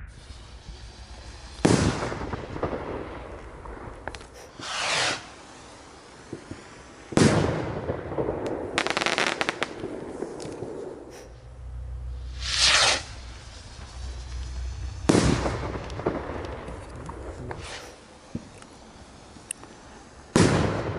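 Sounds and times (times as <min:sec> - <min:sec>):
fireworks bangs: 0:00.0 - 0:20.9
fireworks crackle: 0:00.0 - 0:20.9
rocket whoosh: 0:00.0 - 0:20.9.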